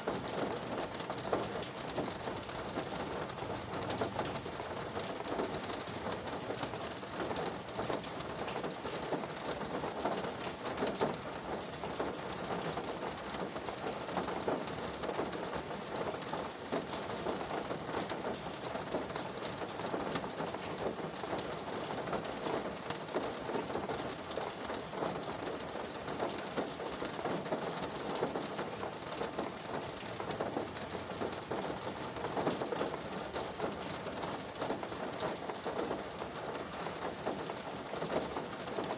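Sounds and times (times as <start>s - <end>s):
rain on car roof: 0.0s - 38.9s.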